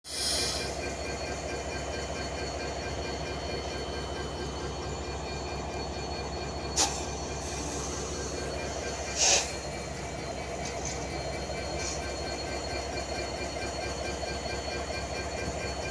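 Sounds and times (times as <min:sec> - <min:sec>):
train rumbling: 0:00.1 - 0:15.9.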